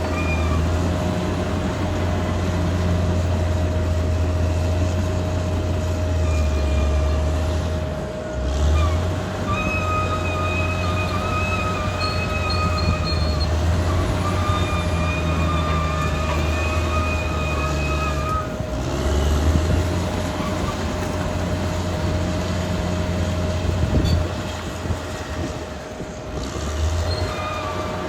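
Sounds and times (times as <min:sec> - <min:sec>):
bulldozer diesel engine running: 0:00.0 - 0:28.0
steel tracks squealing: 0:00.0 - 0:28.0.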